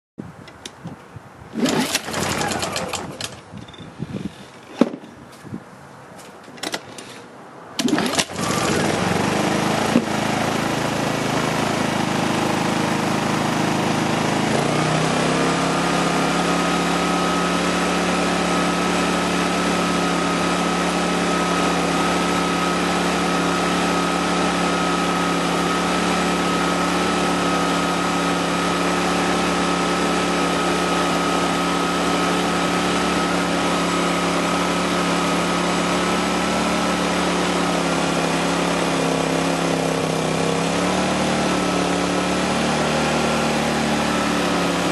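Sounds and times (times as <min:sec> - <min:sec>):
generator engine running: 0:01.5 - 0:03.5, 0:07.8 - 0:44.9.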